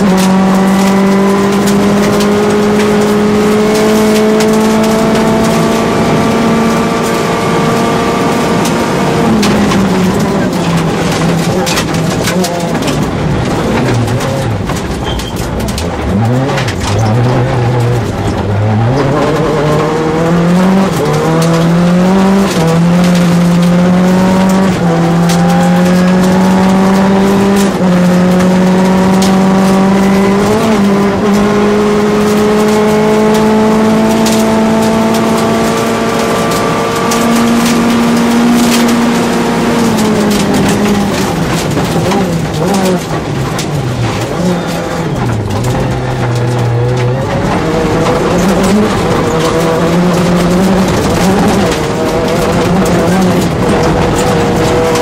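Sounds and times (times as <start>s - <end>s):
car engine revving: 0.0s - 55.0s
stones clicking against car: 8.6s - 55.0s.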